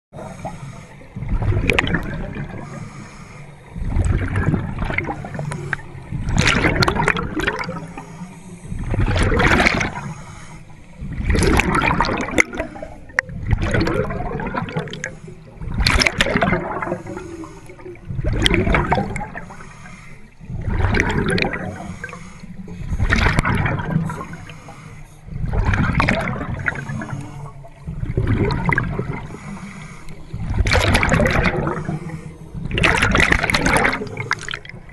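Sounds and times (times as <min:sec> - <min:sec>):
exhaled air bubbles gurgling: 0:00.2 - 0:03.1, 0:03.7 - 0:34.9.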